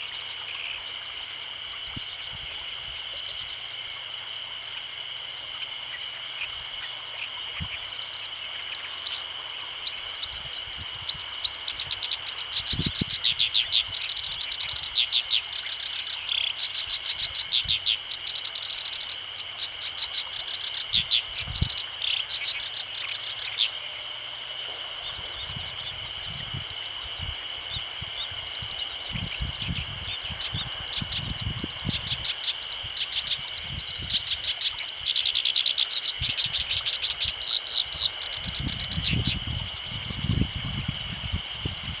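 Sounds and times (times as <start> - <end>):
reed warbler singing: 0.0 - 4.0, 4.6 - 42.0.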